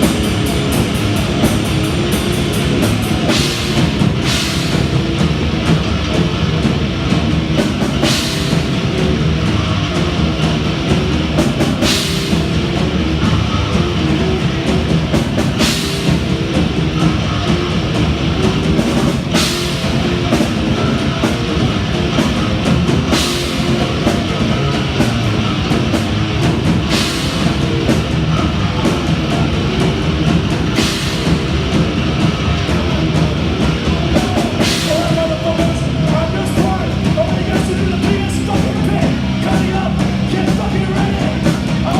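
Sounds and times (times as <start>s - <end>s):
distorted electric guitars and bass: 0.0s - 41.9s
fast dense drumming: 0.0s - 41.9s.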